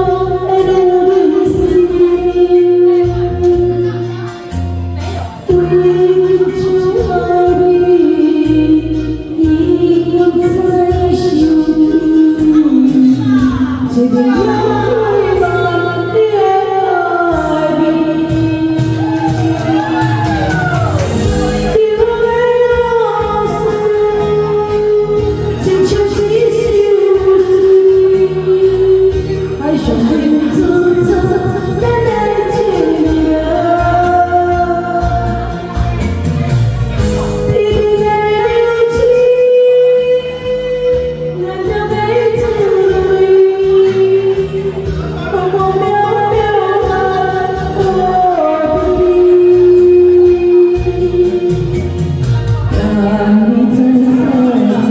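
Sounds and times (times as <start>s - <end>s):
karaoke backing track: 0.0s - 54.9s
person singing: 0.0s - 54.9s.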